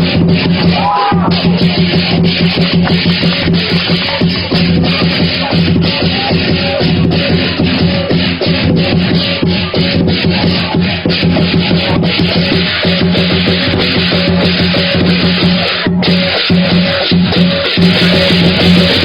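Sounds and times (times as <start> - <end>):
cymbals clashing: 0.0 - 19.0
drum and gong tones: 0.0 - 19.0.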